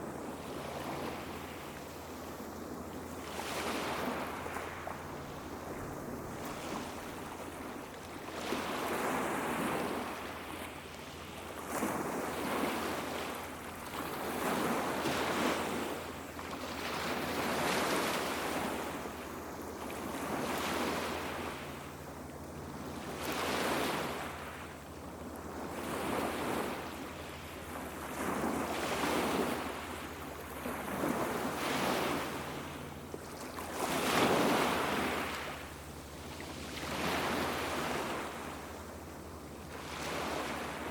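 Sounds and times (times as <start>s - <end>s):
small waves washing onto beach: 0.0s - 40.9s.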